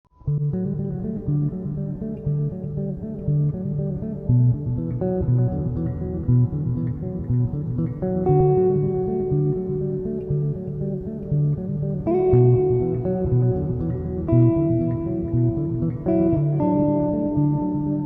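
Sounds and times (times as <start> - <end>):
plucked guitar and bass music: 0.1 - 18.0.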